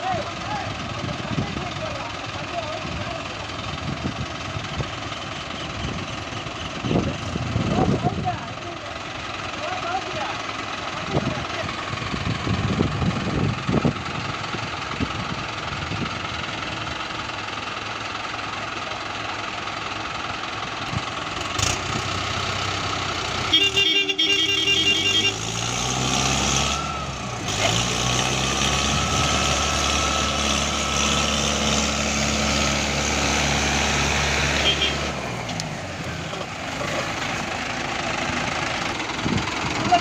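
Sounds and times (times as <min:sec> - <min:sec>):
tractor diesel engine: 0:00.0 - 0:40.0.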